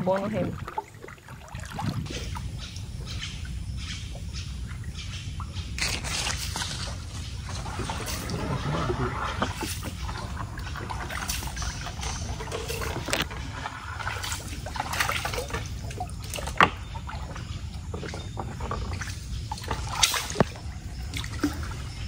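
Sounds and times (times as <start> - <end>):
paddle splashing in water: 0.0 - 22.0.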